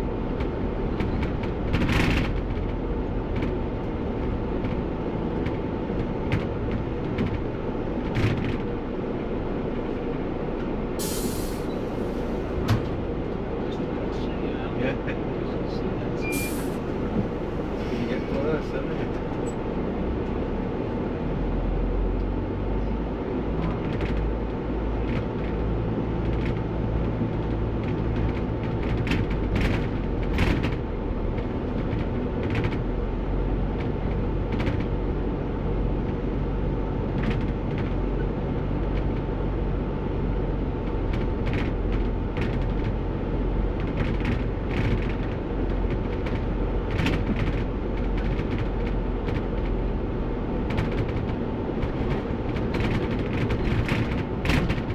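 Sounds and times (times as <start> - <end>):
bus body knocking and rattling: 0.0 - 54.9
bus diesel engine: 0.0 - 54.9
road noise: 0.0 - 54.9.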